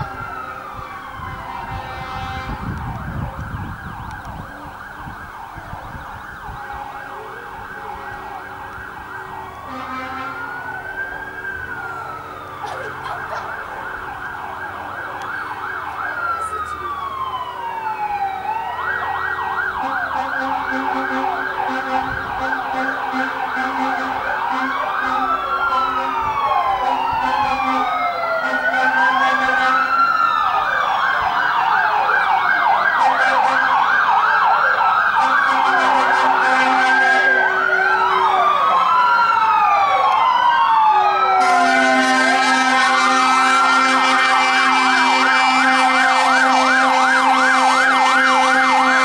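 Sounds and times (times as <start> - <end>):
fire truck sirens wailing: 0.0 - 49.0.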